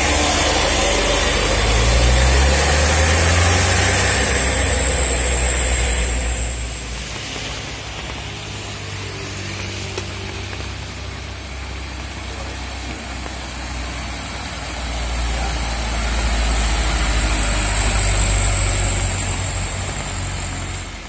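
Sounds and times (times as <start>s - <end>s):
truck diesel engine at low revs: 0.0s - 21.0s.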